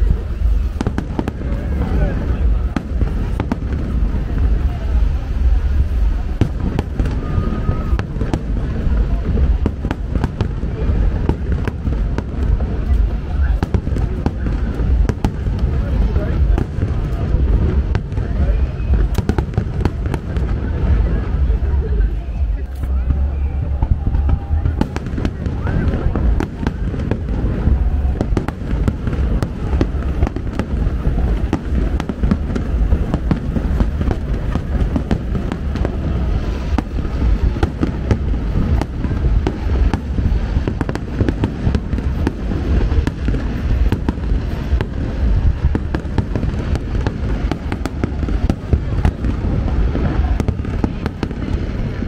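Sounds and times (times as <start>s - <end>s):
fireworks booming bursts: 0.0s - 52.0s
fireworks crackles and pops: 0.0s - 52.0s.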